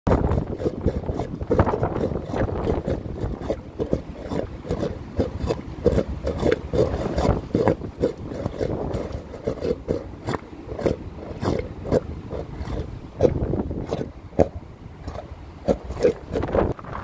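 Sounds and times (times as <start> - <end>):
pulsing hum from wind in grid: 0.1 - 17.0
wind buffeting microphone: 0.1 - 17.0.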